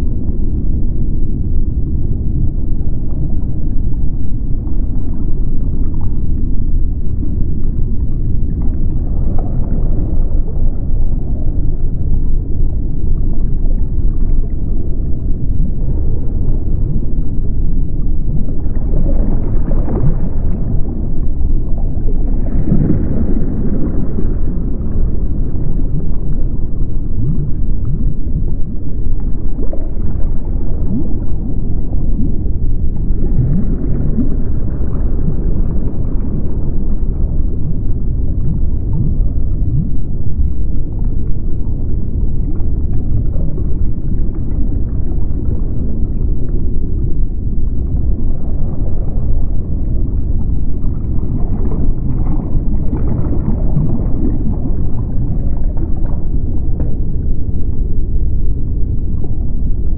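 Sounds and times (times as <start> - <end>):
deep underwater rumble: 0.0 - 59.9.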